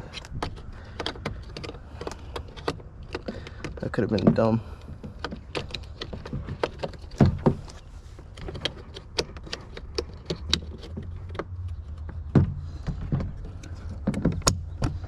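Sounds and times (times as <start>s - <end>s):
plastic clicks and knocks: 0.1s - 7.8s, 8.4s - 15.0s.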